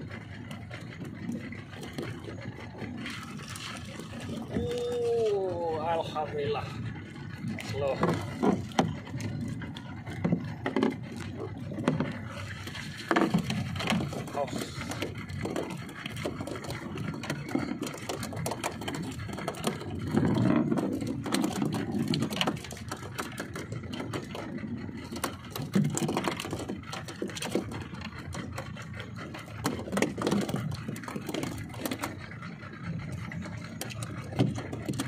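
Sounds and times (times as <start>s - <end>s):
outboard motor running slowly: 0.0s - 35.0s.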